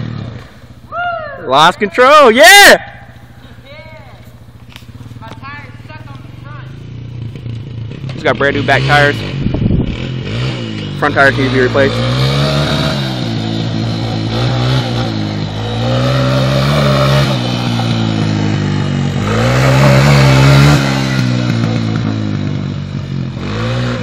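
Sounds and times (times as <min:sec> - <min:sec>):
atv engine revving: 0:00.0 - 0:00.9, 0:04.3 - 0:24.0.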